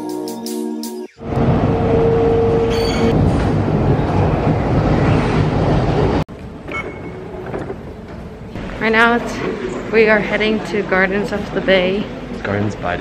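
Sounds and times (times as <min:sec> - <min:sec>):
train rumble inside carriage: 0:01.2 - 0:13.0.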